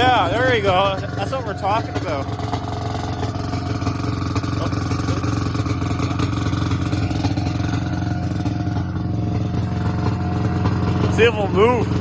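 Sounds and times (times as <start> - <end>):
snowmobile engine idling: 0.0 - 12.0.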